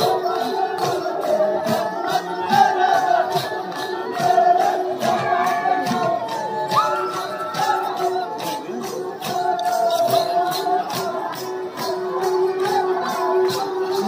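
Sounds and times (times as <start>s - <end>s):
sharp high percussion strokes: 0.0s - 14.0s.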